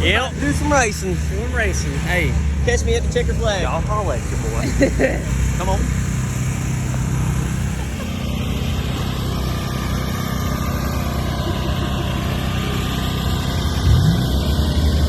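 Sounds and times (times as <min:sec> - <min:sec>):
minibike engine idling and revving: 0:00.0 - 0:15.0.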